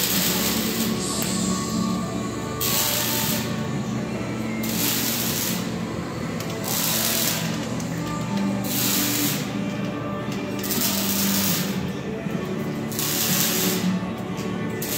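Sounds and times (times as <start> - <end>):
background music with held tones: 0.0 - 14.9.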